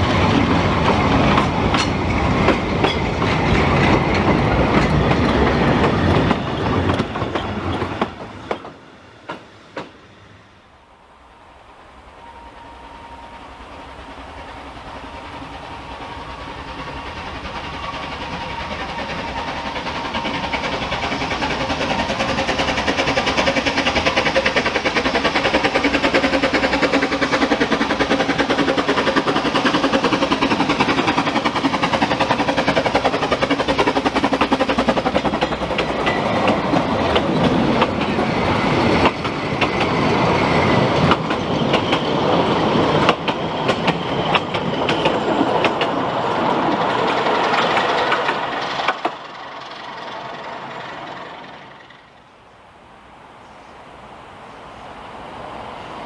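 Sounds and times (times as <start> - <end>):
train wheels clattering on track: 0.0 - 10.6, 13.8 - 52.3.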